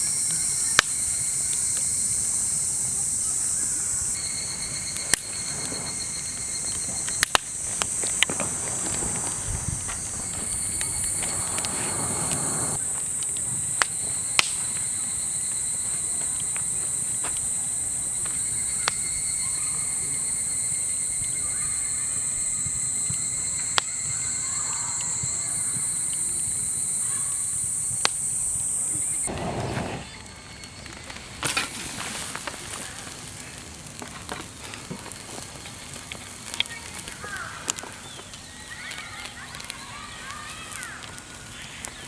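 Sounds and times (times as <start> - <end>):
campfire crackling and hissing: 0.0 - 42.0
insects trilling: 0.0 - 42.0.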